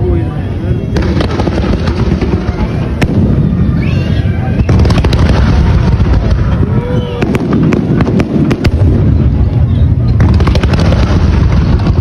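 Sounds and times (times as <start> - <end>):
rumble of fireworks explosions: 0.0 - 12.0
sharp firework bangs: 0.9 - 12.0.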